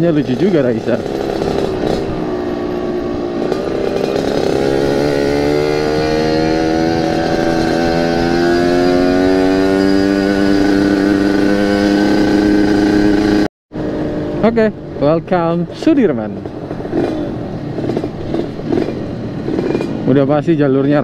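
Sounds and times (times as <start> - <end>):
two-stroke motorcycle engine accelerating: 0.0 - 14.7, 16.1 - 20.2.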